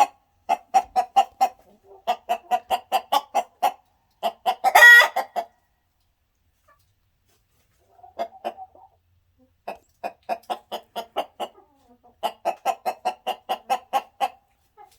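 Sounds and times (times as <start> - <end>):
chicken clucking: 0.0 - 14.9.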